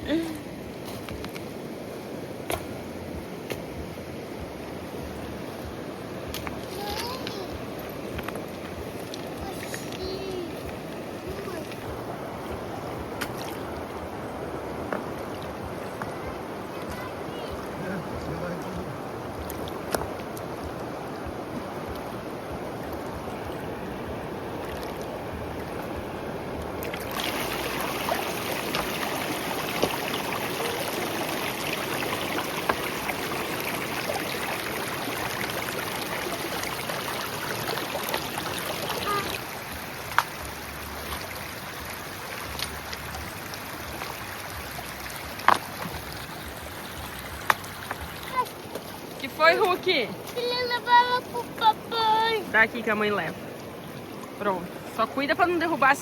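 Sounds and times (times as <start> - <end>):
river water running: 0.0 - 56.0.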